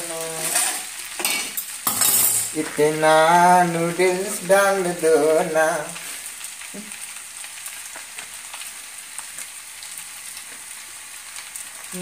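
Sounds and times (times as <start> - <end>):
egg and noodles sizzling in pan: 0.0 - 12.0.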